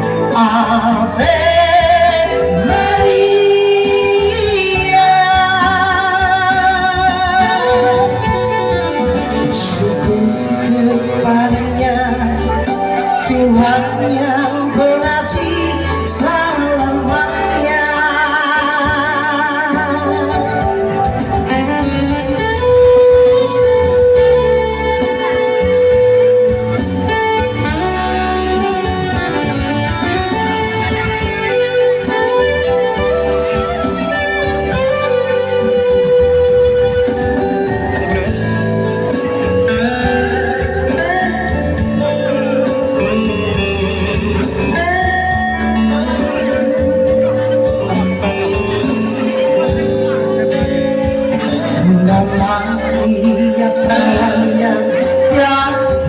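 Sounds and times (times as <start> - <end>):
person singing with vibrato: 0.0 - 29.3, 30.0 - 56.0
instrumental accompaniment: 0.0 - 56.0.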